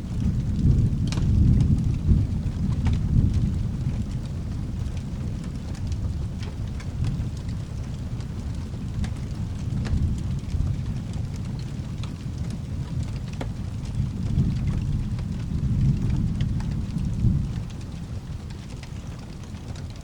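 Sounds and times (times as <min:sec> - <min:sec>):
rolling thunder: 0:00.0 - 0:19.6
faint clicks and crackles: 0:00.0 - 0:20.0
steady rain: 0:00.0 - 0:20.0.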